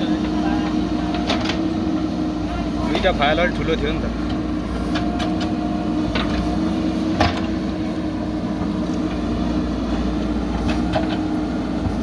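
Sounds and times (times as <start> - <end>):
backhoe engine droning: 0.0 - 12.0.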